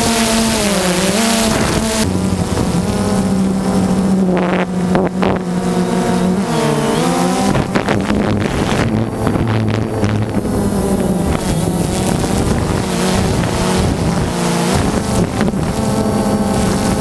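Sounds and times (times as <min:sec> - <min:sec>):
drone motors and propellers: 0:00.0 - 0:17.0.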